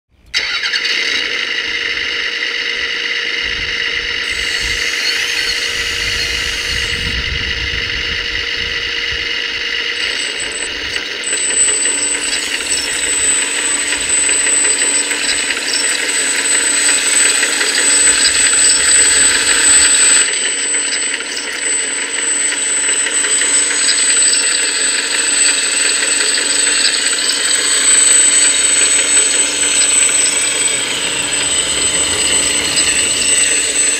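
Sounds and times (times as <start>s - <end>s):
hydraulic pump whine: 0.3s - 33.9s
mechanical clatter: 2.8s - 33.9s
high thin whine: 3.4s - 33.9s.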